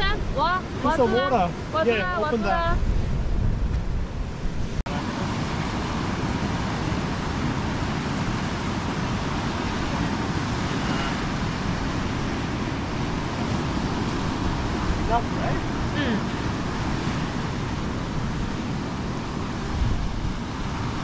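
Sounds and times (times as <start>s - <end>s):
surf on beach: 0.0s - 21.0s
wind noise on microphone: 0.0s - 21.0s.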